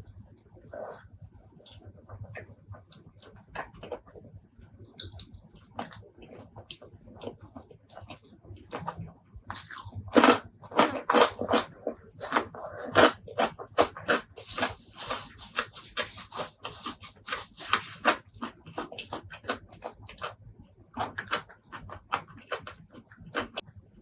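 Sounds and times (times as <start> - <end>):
wet chewing and lip-smacking: 0.0 - 23.7.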